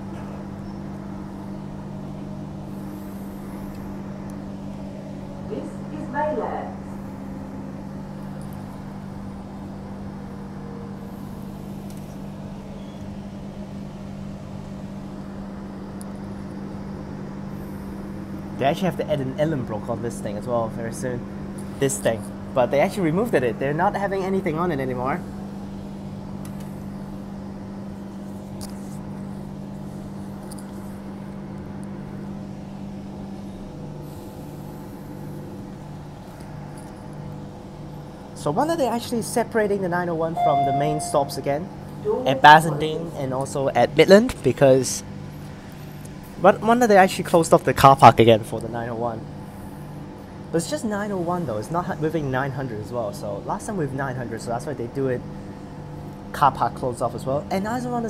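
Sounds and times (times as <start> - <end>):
electric train carriage hum: 0.0 - 53.6.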